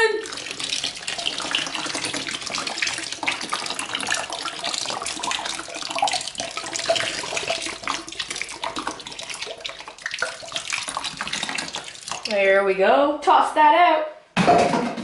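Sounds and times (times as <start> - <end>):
liquid trickling into tub: 0.0 - 12.5
liquid surface bubbling: 0.2 - 12.4.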